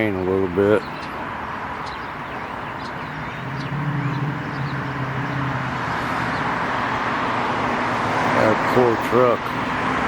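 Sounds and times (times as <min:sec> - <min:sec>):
steady outdoor hiss: 0:00.0 - 0:10.0
low engine hum: 0:00.8 - 0:10.0.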